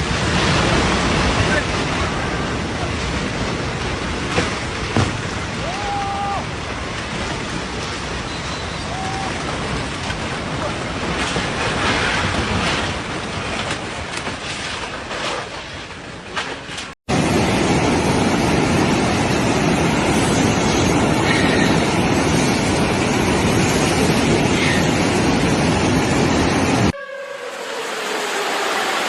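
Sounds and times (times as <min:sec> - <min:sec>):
floodwater rushing: 0:00.0 - 0:14.5, 0:17.1 - 0:29.0.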